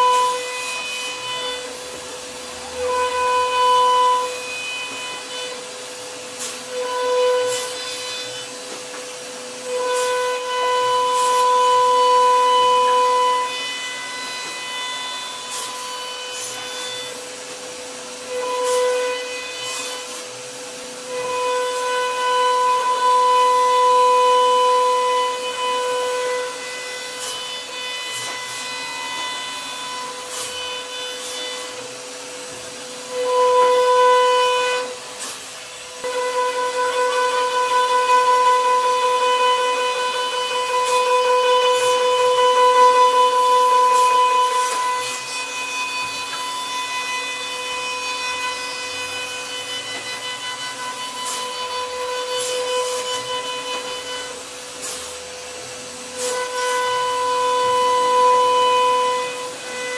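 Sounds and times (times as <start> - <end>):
router spindle whining: 0.0 - 59.9.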